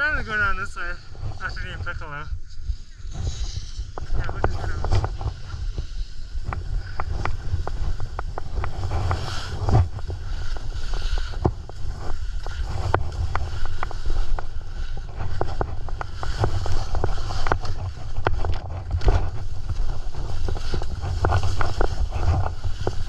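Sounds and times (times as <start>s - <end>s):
ski edges scraping snow: 0.0s - 23.0s
wind rumbling on microphone: 0.0s - 23.0s.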